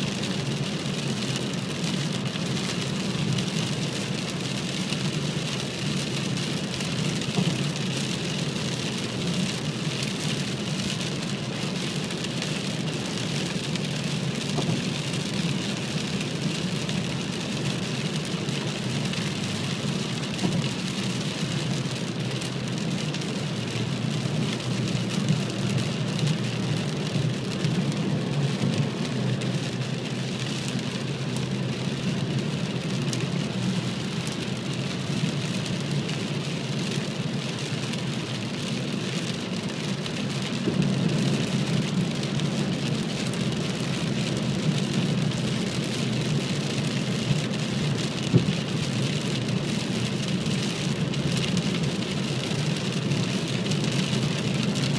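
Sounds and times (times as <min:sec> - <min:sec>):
heavy rain drumming on car: 0:00.0 - 0:54.9
tyre and road noise rumble: 0:00.0 - 0:54.9.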